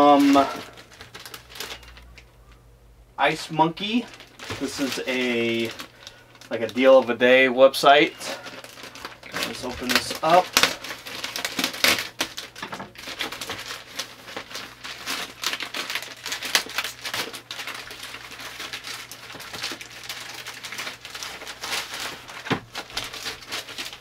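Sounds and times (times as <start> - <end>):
mailer bag crinkling: 0.0 - 2.6, 3.3 - 24.0
plastic wrap crinkling: 0.0 - 2.6, 3.2 - 24.0.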